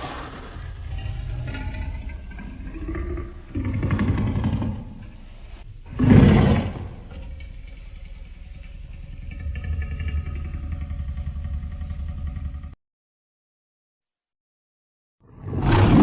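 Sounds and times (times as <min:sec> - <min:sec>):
low rumbling growl: 0:00.0 - 0:12.8, 0:15.3 - 0:16.0.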